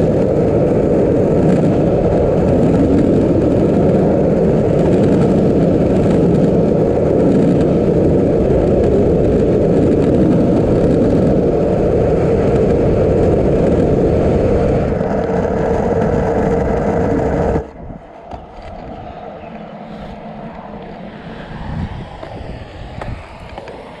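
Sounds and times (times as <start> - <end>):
skateboard wheels rolling on road: 0.0 - 24.0.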